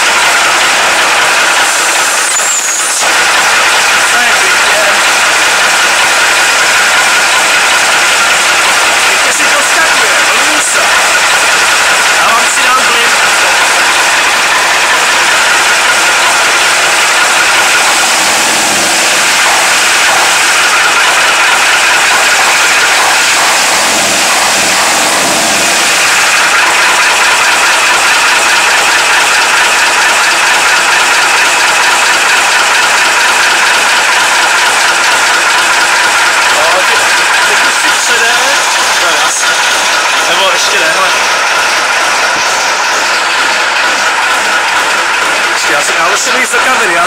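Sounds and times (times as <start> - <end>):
cooling blower whirring: 0.0 - 47.0
diesel engine idling: 0.0 - 47.0.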